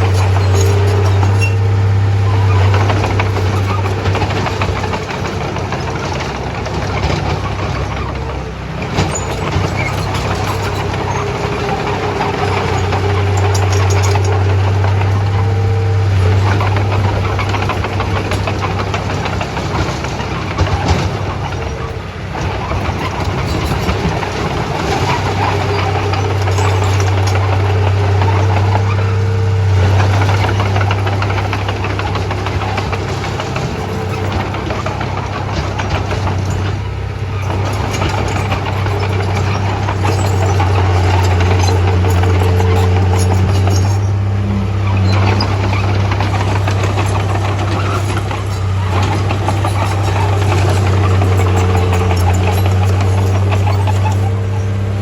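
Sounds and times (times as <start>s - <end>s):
clanks and knocks: 0.0s - 54.8s
bulldozer diesel engine: 0.0s - 55.0s.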